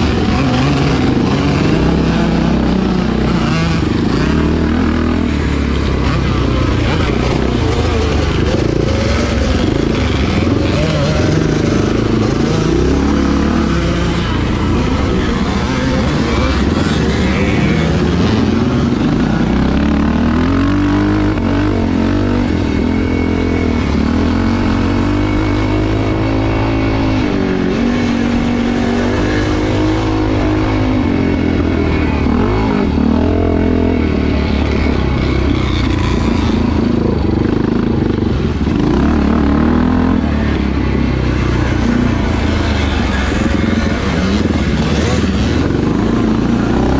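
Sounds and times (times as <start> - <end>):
motocross engines revving: 0.0 - 46.9.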